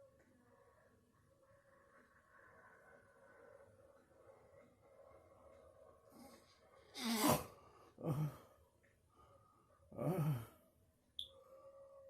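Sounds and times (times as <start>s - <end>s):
quiet breathing: 0.0s - 12.0s.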